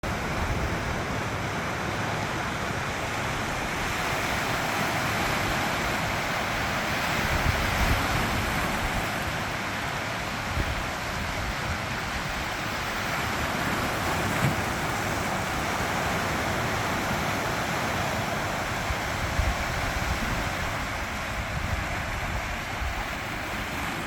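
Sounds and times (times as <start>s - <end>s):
sea waves washing: 0.0s - 24.0s
wind gusting on microphone: 2.4s - 24.0s.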